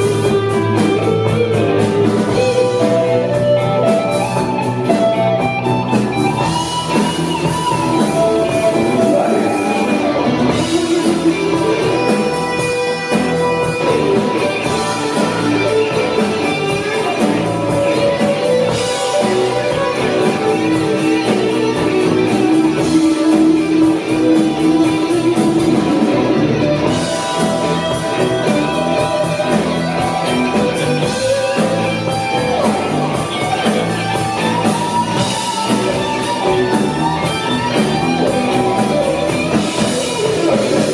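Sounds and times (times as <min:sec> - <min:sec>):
electric guitar: 0:00.0 - 0:40.9
rock band playing live: 0:00.0 - 0:40.9
steady drum beat: 0:00.0 - 0:40.9.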